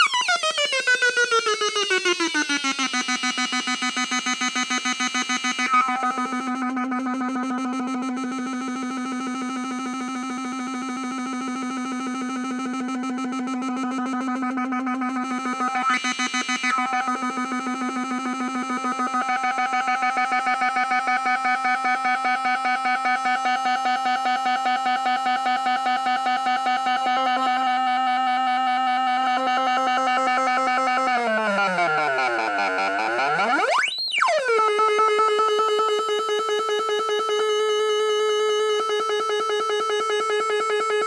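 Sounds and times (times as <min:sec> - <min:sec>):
electronic synth drone pulsing: 0:00.0 - 0:37.5.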